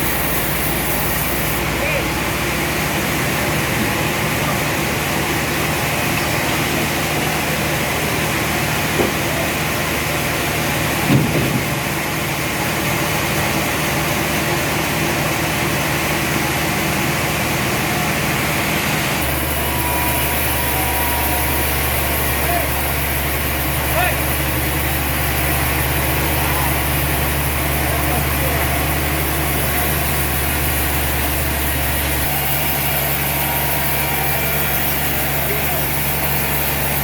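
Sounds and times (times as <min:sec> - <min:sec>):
heavy machinery humming: 0:00.0 - 0:37.0.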